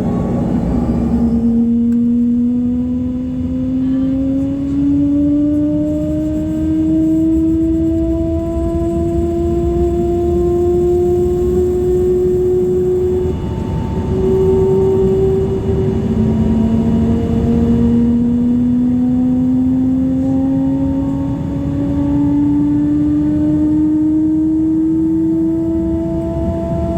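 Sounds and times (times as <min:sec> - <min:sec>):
jet engines droning: 0:00.0 - 0:26.9.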